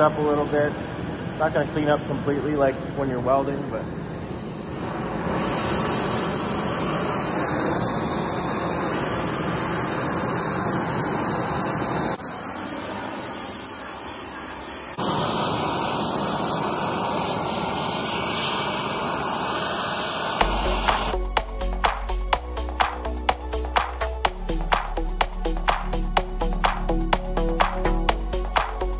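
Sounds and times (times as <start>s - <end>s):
gas torch hissing: 0.0s - 28.9s.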